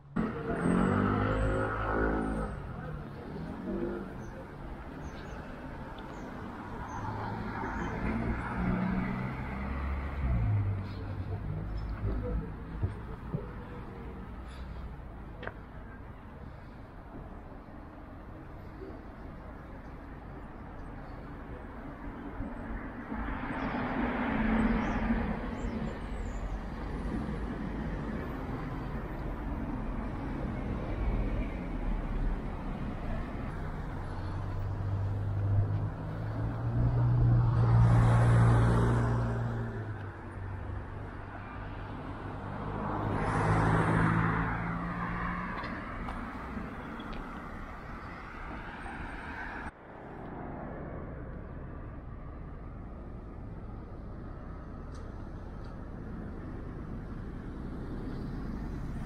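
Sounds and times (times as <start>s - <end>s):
cars passing: 0.0s - 59.0s
road noise: 0.0s - 59.0s.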